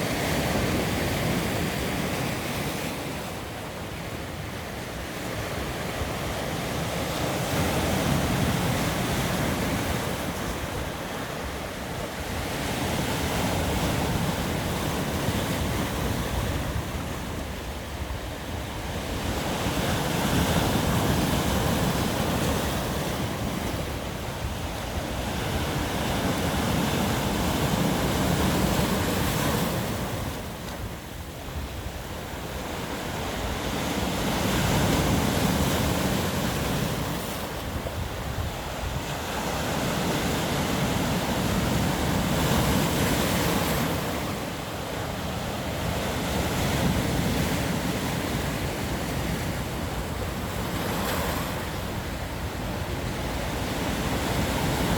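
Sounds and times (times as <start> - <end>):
wind on microphone: 0.0 - 54.9.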